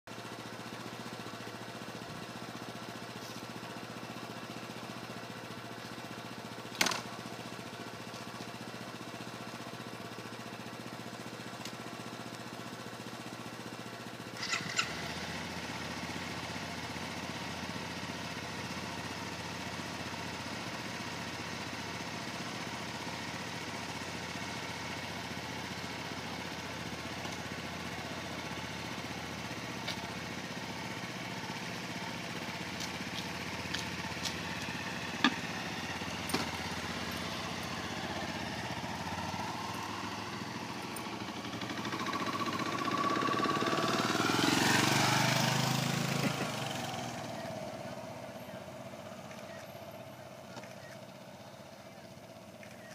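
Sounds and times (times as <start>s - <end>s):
motorcycle engine running: 0.1s - 52.9s.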